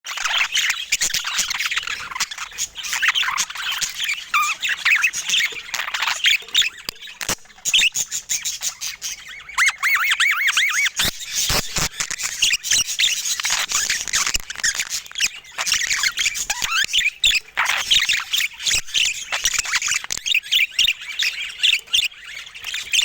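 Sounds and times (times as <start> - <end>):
budgerigars chattering and warbling: 0.1 - 23.0.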